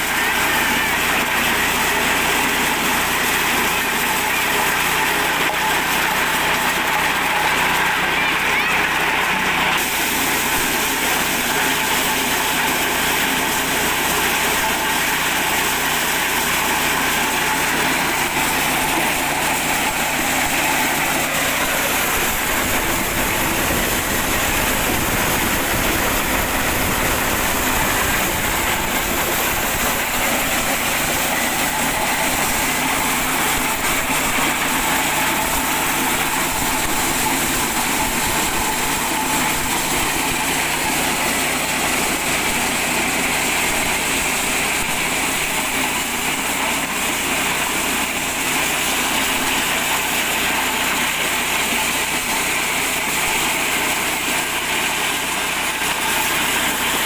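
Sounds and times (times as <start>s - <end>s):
corn sheller engine running: 0.0s - 57.0s.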